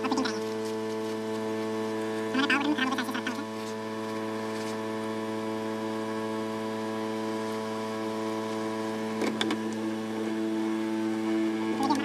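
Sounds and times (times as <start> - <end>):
hot air gun blower humming: 0.0 - 12.0.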